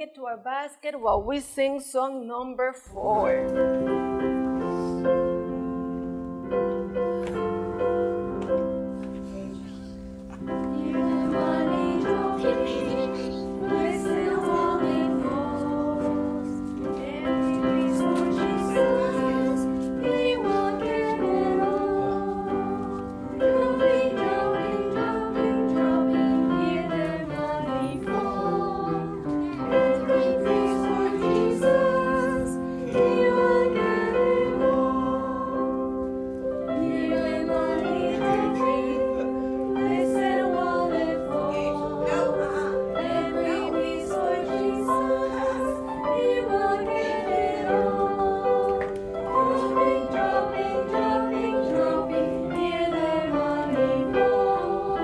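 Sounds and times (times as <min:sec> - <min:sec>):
children's song singing: 0:08.5 - 0:55.0.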